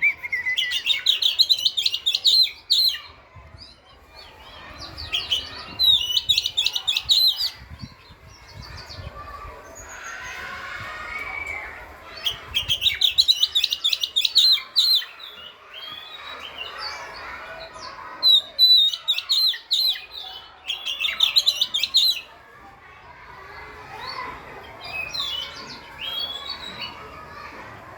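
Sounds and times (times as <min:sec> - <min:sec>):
bird singing trilling phrases: 0:00.0 - 0:22.3, 0:24.1 - 0:27.2.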